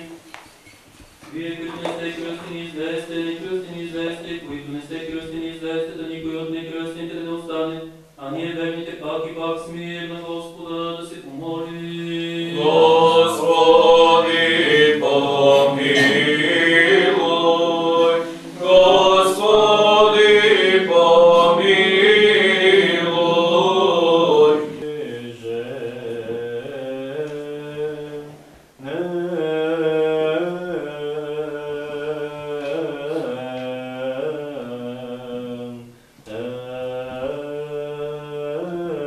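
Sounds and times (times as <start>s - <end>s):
voices chanting a cappella: 1.2s - 39.0s.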